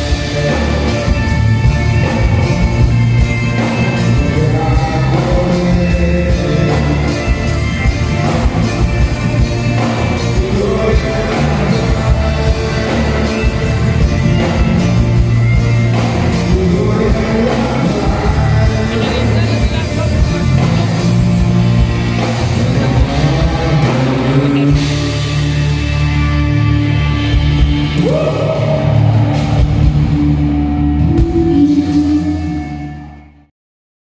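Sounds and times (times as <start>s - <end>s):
person singing: 0.0s - 25.4s, 27.8s - 29.9s, 31.0s - 33.4s
loud band music: 0.0s - 33.4s.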